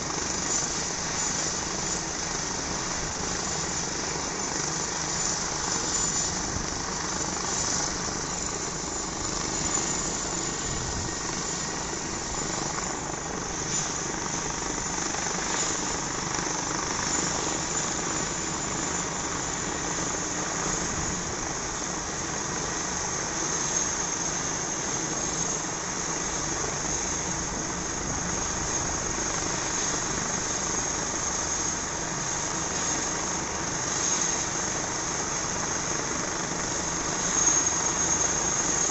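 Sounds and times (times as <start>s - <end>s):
helicopter turbine and rotor: 0.0s - 38.9s
high turbine whine: 0.0s - 38.9s.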